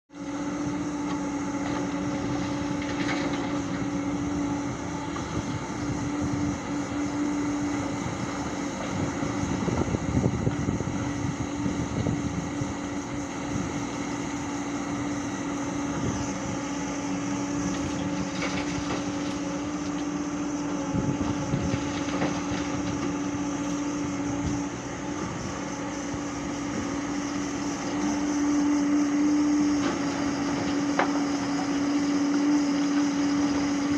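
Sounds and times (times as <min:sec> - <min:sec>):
excavator engine and hydraulics drone: 0:00.1 - 0:33.9.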